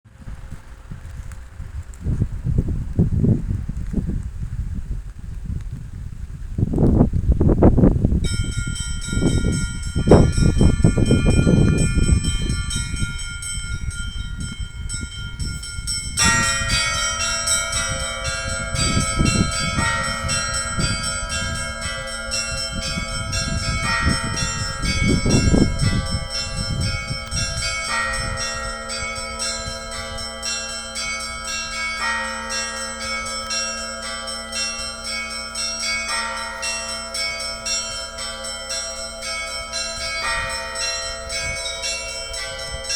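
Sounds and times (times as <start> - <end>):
wind buffeting microphone: 0.1 - 42.9
heavy bell struck: 8.2 - 42.9
small bells chiming rapidly: 8.3 - 42.9.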